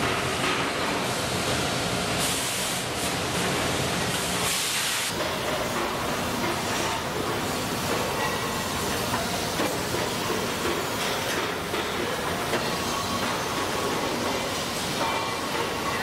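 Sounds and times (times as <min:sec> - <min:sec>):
factory machinery running: 0:00.0 - 0:16.0.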